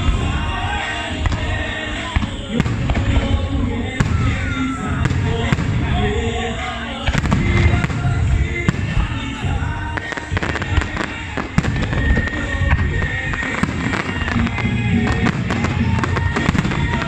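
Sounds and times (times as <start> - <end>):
firework shells bursting: 0.0 - 17.0
music playing: 0.0 - 17.0.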